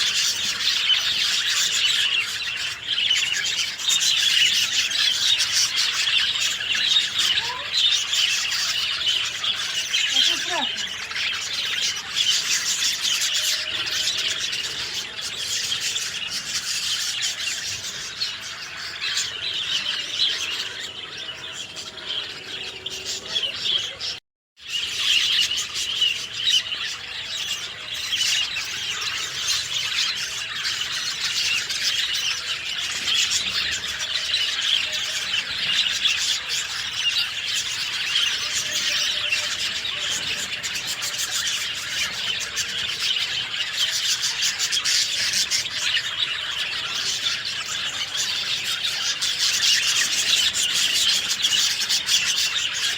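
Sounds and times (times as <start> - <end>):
chorus of small birds chirping: 0.0 - 52.9.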